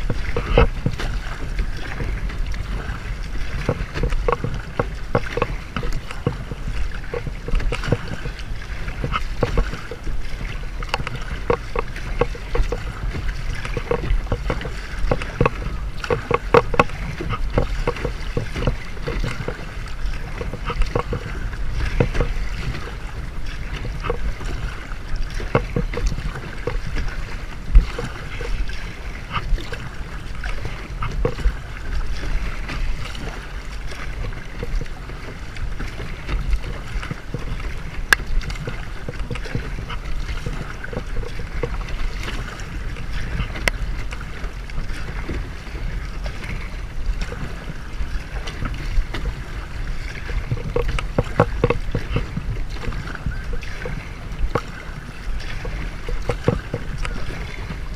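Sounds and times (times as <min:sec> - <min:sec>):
paddle splashing in water: 0:00.0 - 0:57.9
water lapping against hull: 0:00.0 - 0:57.9.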